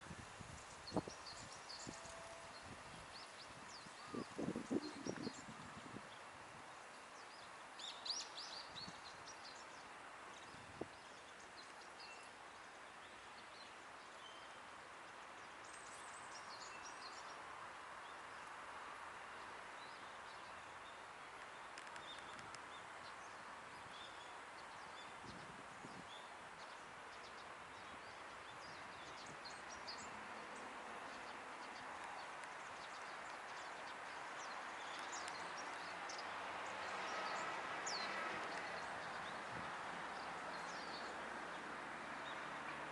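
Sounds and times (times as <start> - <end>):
background hiss: 0.0 - 42.9.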